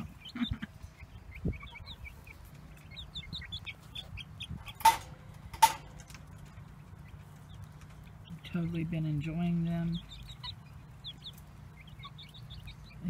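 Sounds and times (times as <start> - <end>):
chicks cheeping: 0.0 - 13.0.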